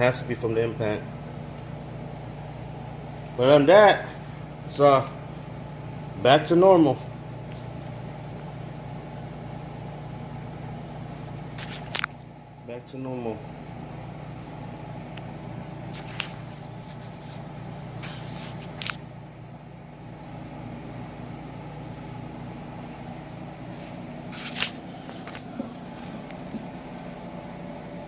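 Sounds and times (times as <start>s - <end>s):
air conditioner humming: 0.0s - 28.0s.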